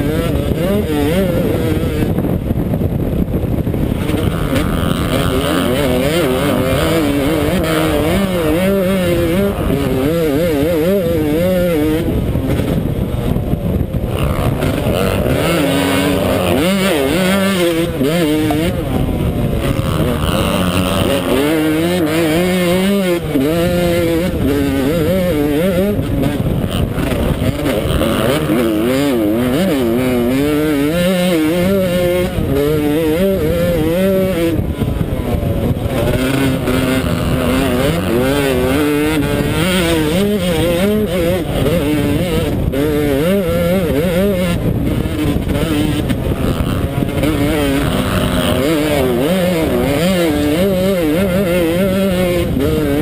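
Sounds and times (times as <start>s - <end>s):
motocross engine revving: 0.0s - 53.0s.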